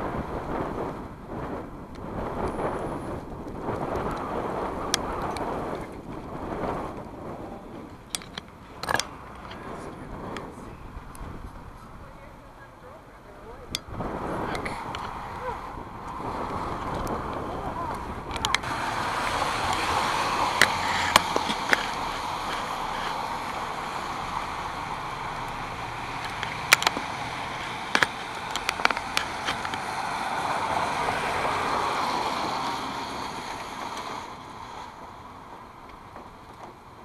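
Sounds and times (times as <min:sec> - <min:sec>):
steady rain: 0:00.0 - 0:37.0
raindrops tapping: 0:00.5 - 0:37.0.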